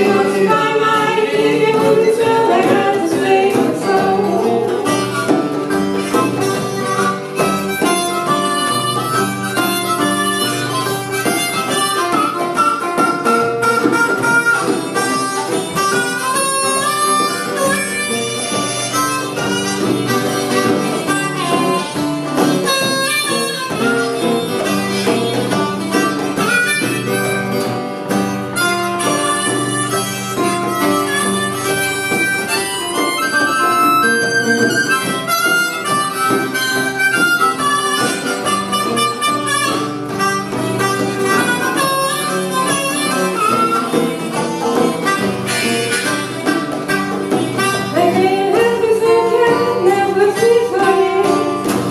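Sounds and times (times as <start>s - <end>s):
blues harmonica solo: 0.0s - 51.9s
strummed acoustic guitar: 0.0s - 51.9s.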